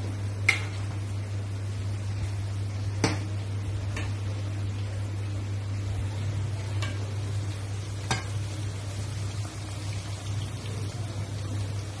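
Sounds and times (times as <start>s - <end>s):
deep-frying sizzle: 0.0s - 12.0s.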